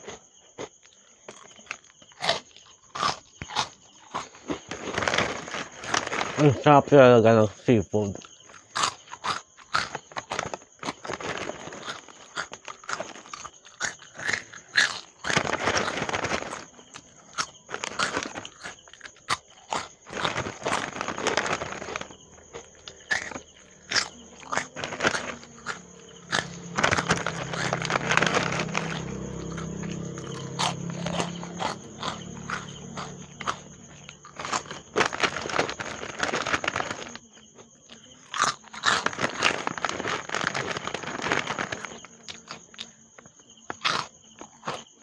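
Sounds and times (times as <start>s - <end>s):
crackers crunching: 0.0s - 6.9s, 8.0s - 43.0s, 43.6s - 45.0s.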